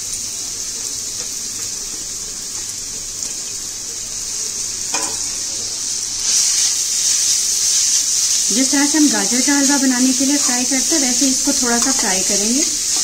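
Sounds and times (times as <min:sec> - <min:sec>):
pumpkin sizzling in a pan: 0:00.0 - 0:13.0.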